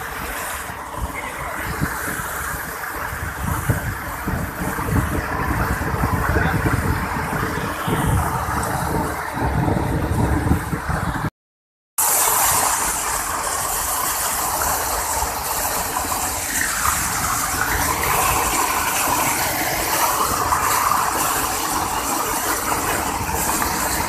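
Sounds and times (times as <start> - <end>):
water rushing down spillway: 0.0 - 11.3, 12.0 - 24.0.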